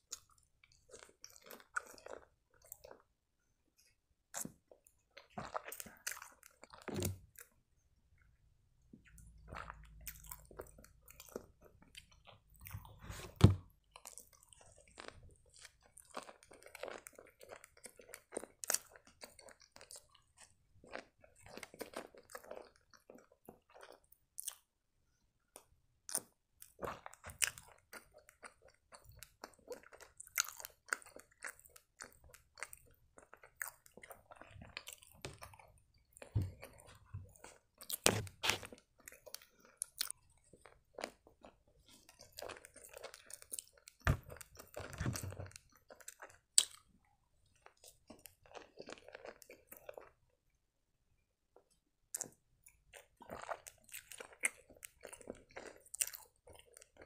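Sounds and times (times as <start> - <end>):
chewing flaky pastry: 0.0 - 57.0.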